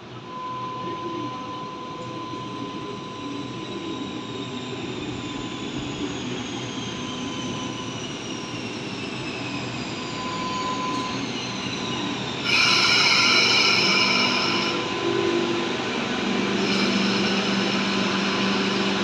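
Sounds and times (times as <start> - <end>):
electric train whine: 0.0 - 19.0
high-pitched brake squeal: 0.2 - 5.9, 6.8 - 19.0.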